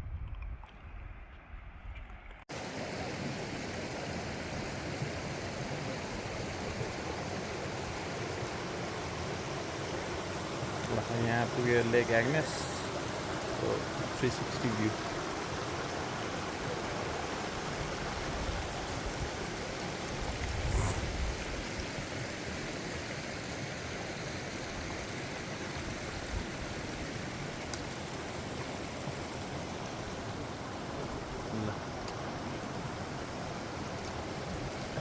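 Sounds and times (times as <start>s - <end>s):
rushing water: 2.5s - 35.0s.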